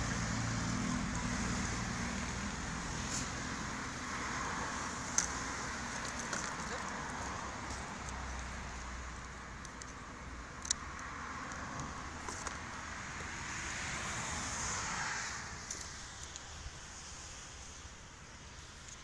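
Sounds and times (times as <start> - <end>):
car passing: 0.0 - 18.8.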